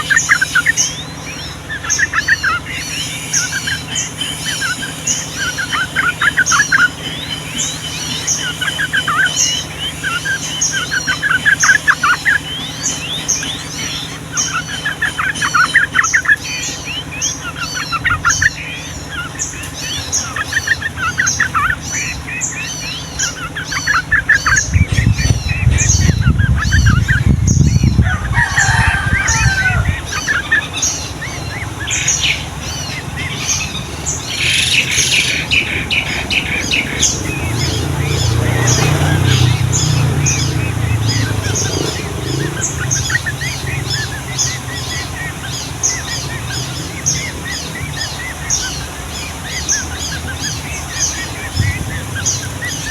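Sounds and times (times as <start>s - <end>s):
bulbul singing rolling chatter: 0.0s - 52.9s
low rumbling noise: 0.0s - 52.9s.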